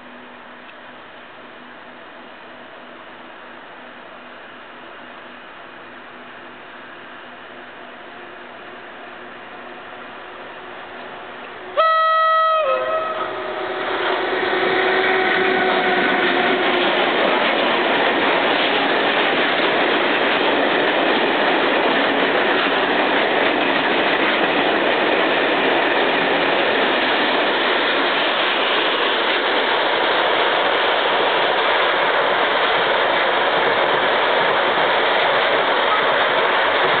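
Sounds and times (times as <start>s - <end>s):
train wheels on rails: 2.4s - 37.0s.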